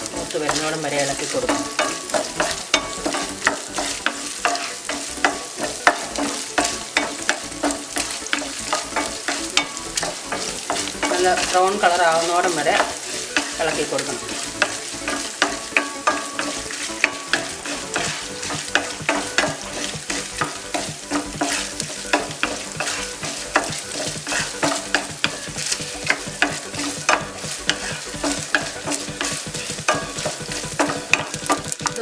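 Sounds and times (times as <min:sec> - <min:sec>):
food sizzling in oil: 0:00.0 - 0:32.0
wooden spatula scraping pan: 0:00.0 - 0:32.0.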